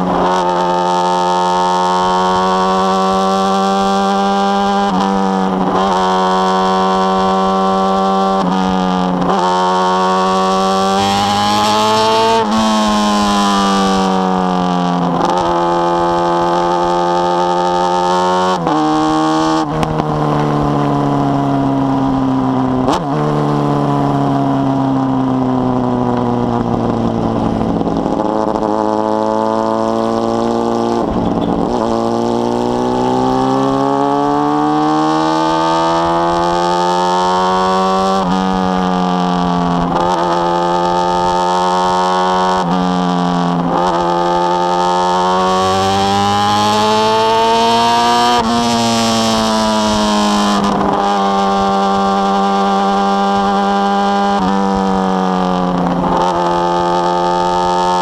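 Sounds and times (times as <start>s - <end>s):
motorcycle accelerating through gears: 0.0s - 58.0s.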